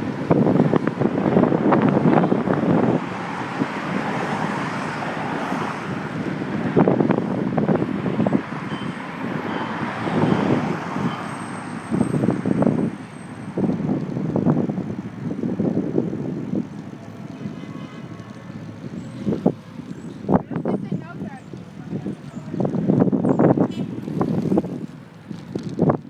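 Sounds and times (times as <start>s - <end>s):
city traffic: 0.0s - 26.0s
wind on microphone: 0.0s - 26.0s.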